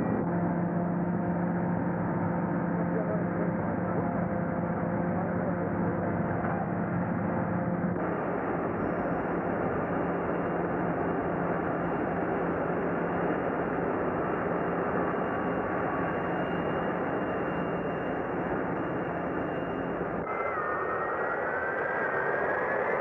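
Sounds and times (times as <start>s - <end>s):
airport vehicle engines: 0.0s - 23.0s
low steady hum: 0.0s - 23.0s.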